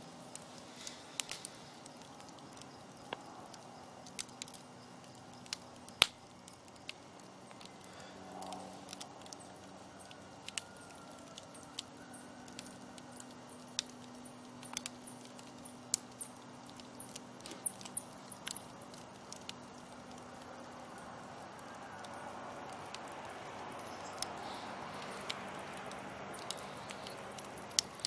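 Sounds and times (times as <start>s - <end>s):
faint hum: 0.0s - 28.0s
wood fire crackling: 0.0s - 28.0s.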